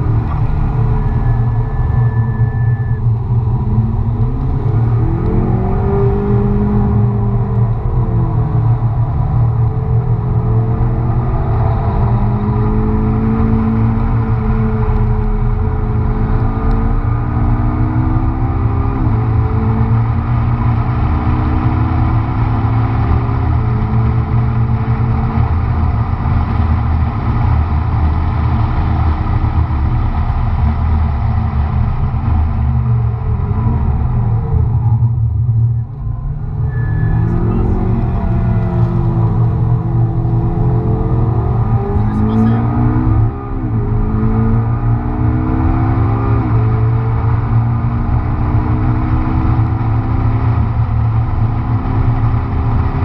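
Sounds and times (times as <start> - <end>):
car engine revving: 0.0 - 53.0
road and wind rumble: 0.0 - 53.0.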